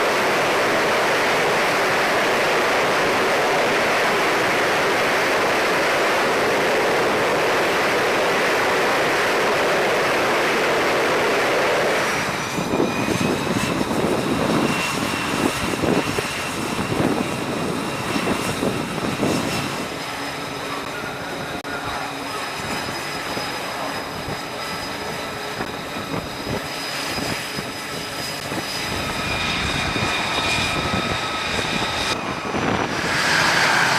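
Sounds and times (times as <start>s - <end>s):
aircraft engines roaring: 0.0s - 33.9s.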